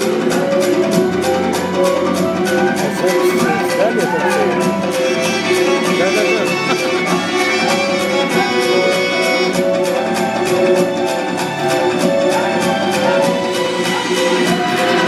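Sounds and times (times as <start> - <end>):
folk dance music: 0.0 - 15.0.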